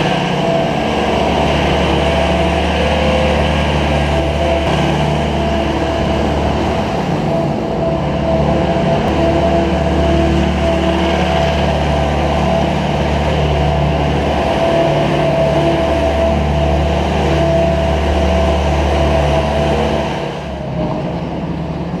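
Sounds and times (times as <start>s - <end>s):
manure scraper engine running: 0.0s - 22.0s.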